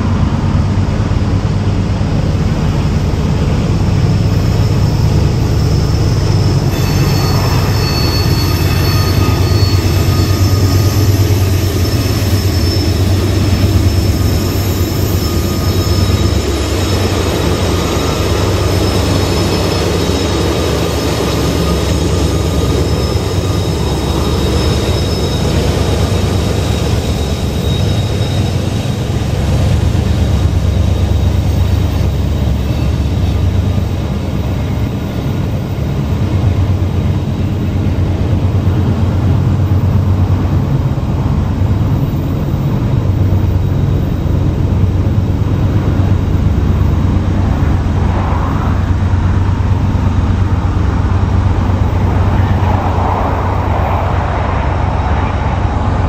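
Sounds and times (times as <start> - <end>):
diesel locomotive moving away: 0.0 - 56.0
freight train wheels rumbling: 0.0 - 56.0.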